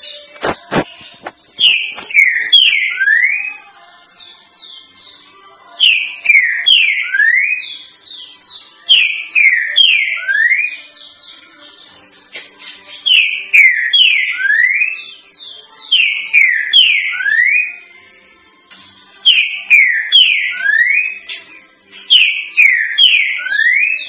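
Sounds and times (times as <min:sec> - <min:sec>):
bird whistling song: 0:00.0 - 0:05.2, 0:05.8 - 0:18.2, 0:19.2 - 0:24.0.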